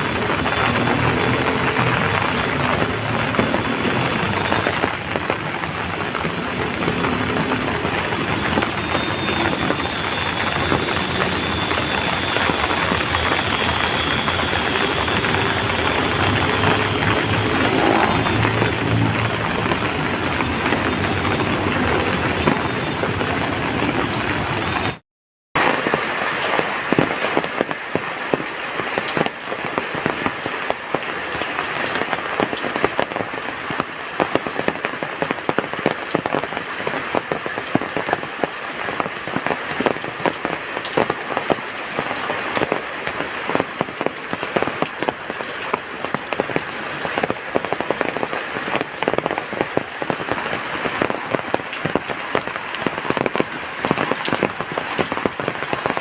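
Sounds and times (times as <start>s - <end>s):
heavy rain pouring: 0.0s - 25.0s, 25.6s - 56.0s
raindrop impacts: 0.0s - 25.0s, 25.6s - 56.0s.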